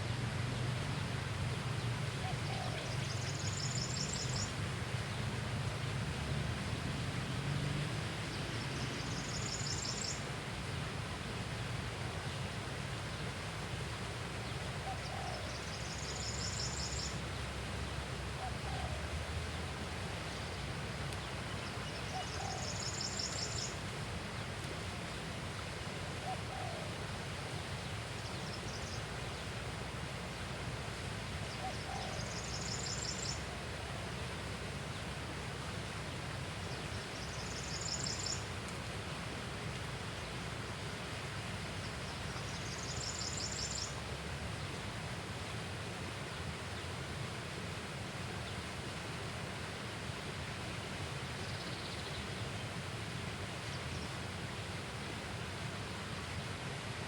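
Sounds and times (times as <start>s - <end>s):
low rumble and hiss: 0.0s - 57.0s.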